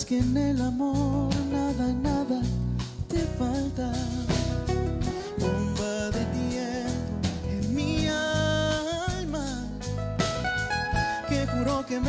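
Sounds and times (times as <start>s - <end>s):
man singing: 0.0s - 10.2s, 10.9s - 12.0s
live band playing: 0.0s - 12.0s.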